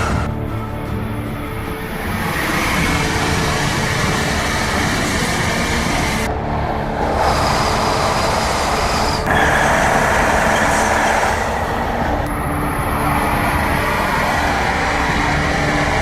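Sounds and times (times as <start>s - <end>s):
high-speed train running: 0.0s - 16.0s.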